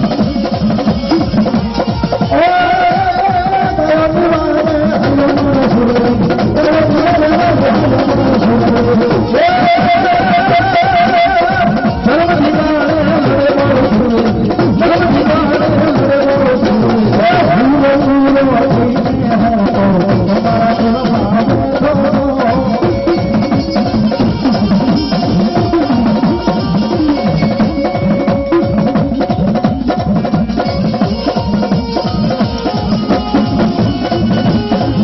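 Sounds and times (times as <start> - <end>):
hand drums: 0.0 - 35.0
sustained melody line: 0.0 - 35.0.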